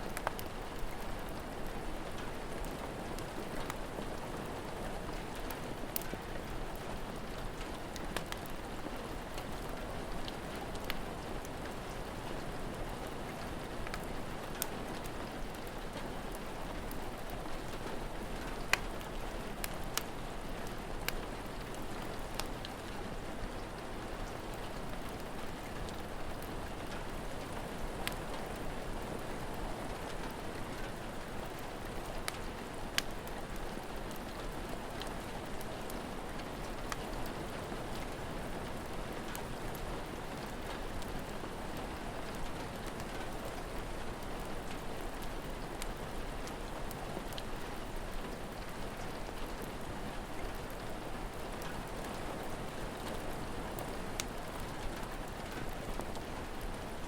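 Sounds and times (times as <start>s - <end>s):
steady rain falling: 0.0s - 57.0s
wood fire crackling: 0.1s - 57.0s.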